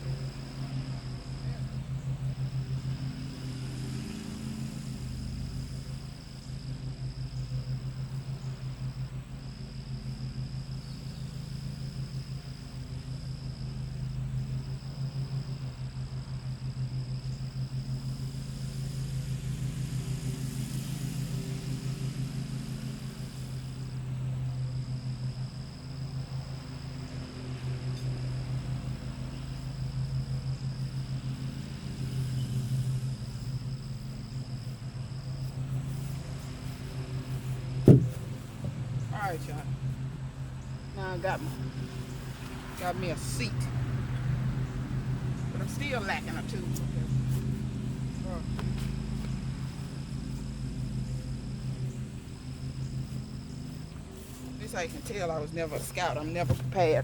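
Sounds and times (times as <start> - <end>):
high insect trill: 0.0 - 57.0
lawn mower engines running: 0.0 - 57.0.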